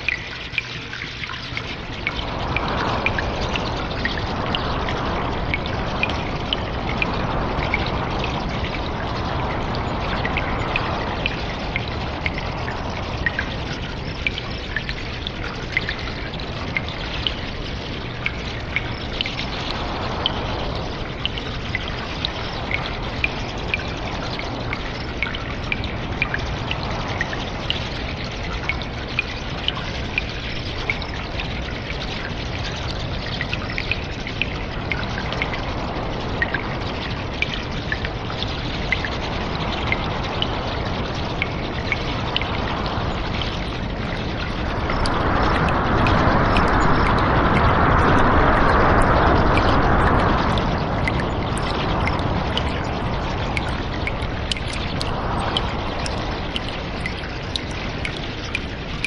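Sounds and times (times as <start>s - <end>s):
running water trickling: 0.0s - 59.0s
water dripping: 0.0s - 59.0s.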